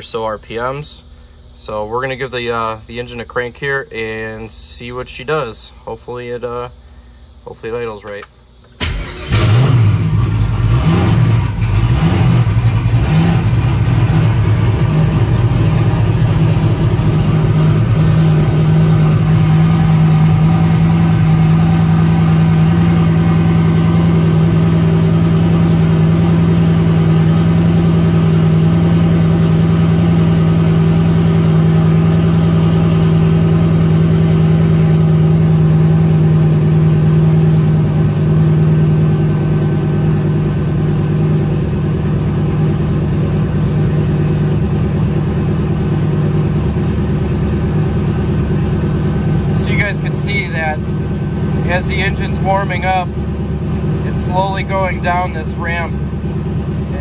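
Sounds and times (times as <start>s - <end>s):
car engine idling: 0.0s - 4.4s, 8.1s - 57.0s.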